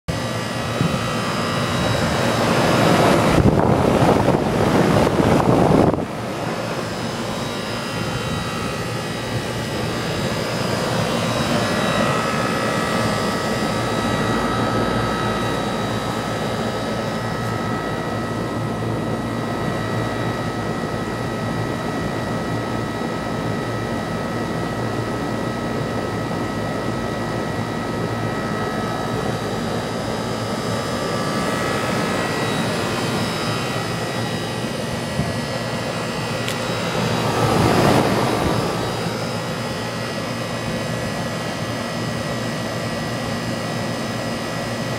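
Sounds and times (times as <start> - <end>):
air conditioning fan rushing: 0.1 - 44.9.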